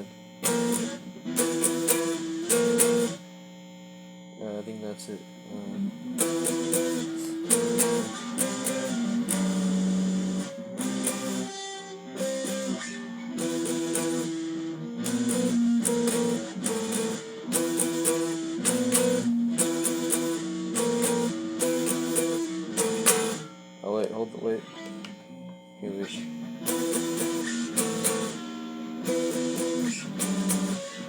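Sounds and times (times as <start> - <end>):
electric guitar power chords: 0.0 - 3.2, 4.4 - 31.0.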